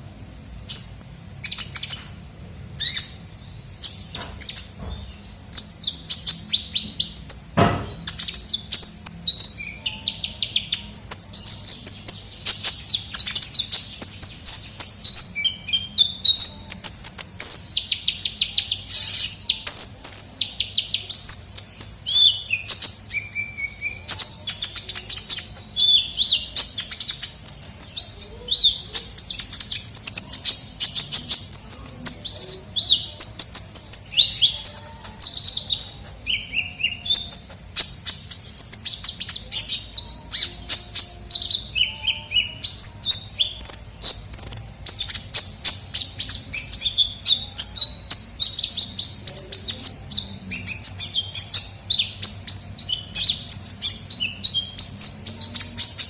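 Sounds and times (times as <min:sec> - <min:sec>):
bird singing chirps and trills: 0:00.4 - 0:56.0.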